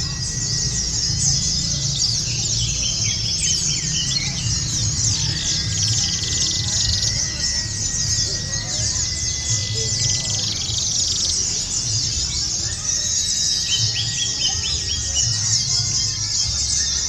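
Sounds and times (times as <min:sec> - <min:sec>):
birds twittering in chorus: 0:00.0 - 0:17.0.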